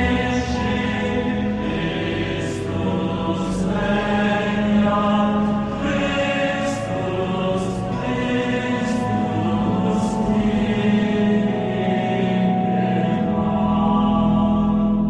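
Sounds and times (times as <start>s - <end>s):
voices singing a chant-like hymn: 0.0s - 15.0s.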